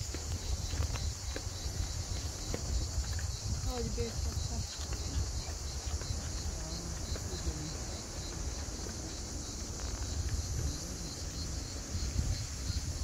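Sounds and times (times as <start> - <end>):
cicada buzzing: 0.4 - 13.0.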